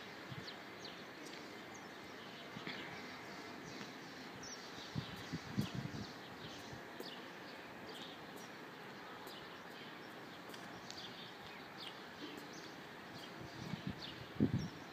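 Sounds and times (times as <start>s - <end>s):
outdoor background hiss: 0.0s - 14.9s
small birds chirping: 0.0s - 14.9s.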